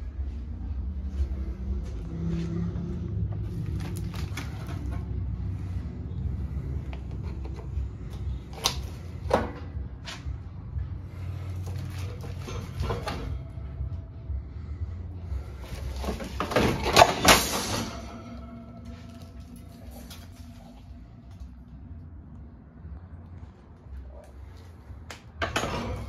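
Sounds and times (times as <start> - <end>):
low steady rumble: 0.0 - 26.0
metal fans and shelving rattling: 0.0 - 26.0.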